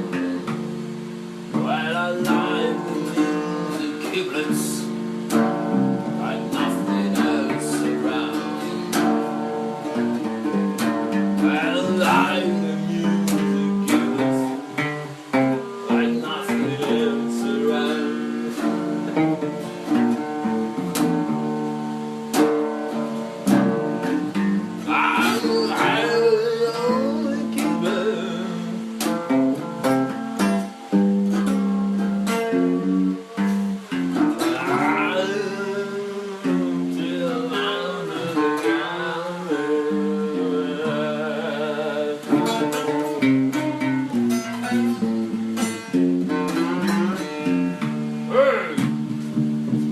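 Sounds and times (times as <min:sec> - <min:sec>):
wavering sung line: 0:00.0 - 0:49.2
acoustic guitar music: 0:00.0 - 0:49.9.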